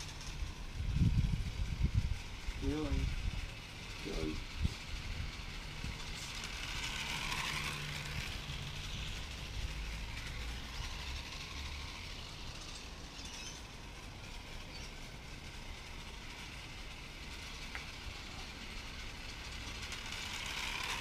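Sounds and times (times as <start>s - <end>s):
toy steam tram hissing and rumbling: 0.0s - 21.0s.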